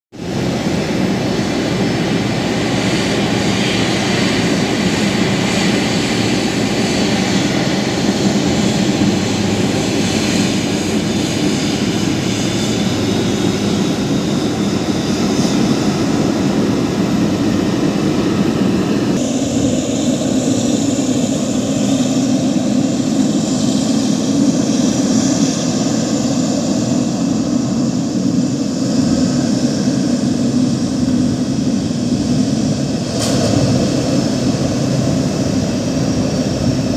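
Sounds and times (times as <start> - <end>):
jet engine hiss: 0.2 - 36.9
jet engines rumbling: 0.2 - 36.9.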